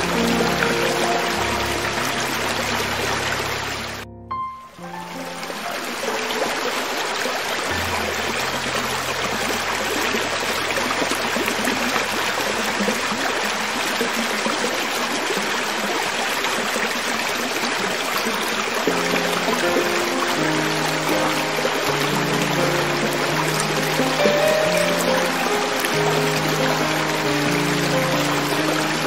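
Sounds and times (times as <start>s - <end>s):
creek water flowing over rocks: 0.0s - 4.1s, 4.8s - 29.0s.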